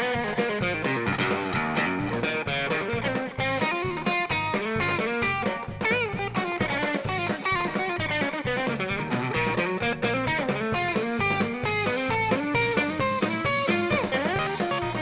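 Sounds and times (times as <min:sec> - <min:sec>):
bass: 0:00.0 - 0:15.0
drums: 0:00.0 - 0:15.0
electric guitar lead: 0:00.0 - 0:15.0.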